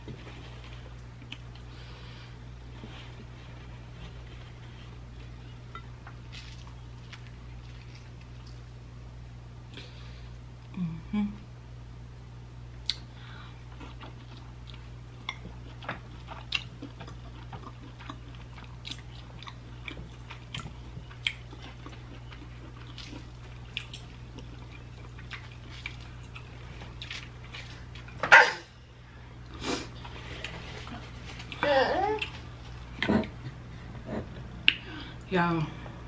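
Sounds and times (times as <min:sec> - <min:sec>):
steady low hum: 0:00.0 - 0:36.0
person chewing food: 0:00.1 - 0:01.9, 0:02.6 - 0:08.7, 0:12.8 - 0:28.3, 0:29.4 - 0:34.9.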